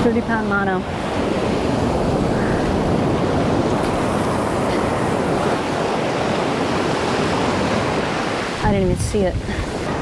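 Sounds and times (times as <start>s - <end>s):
ocean surf breaking: 0.0s - 10.0s
wind on microphone: 0.0s - 10.0s.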